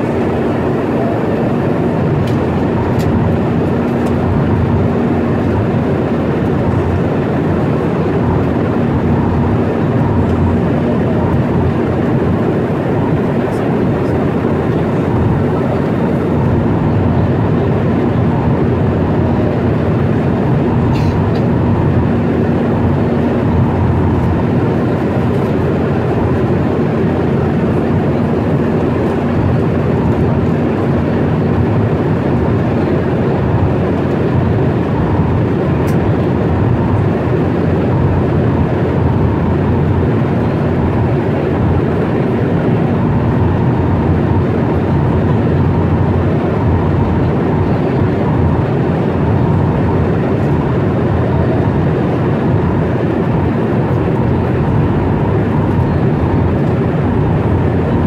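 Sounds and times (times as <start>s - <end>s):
jet engines droning: 0.0s - 58.0s
rushing airflow: 0.0s - 58.0s.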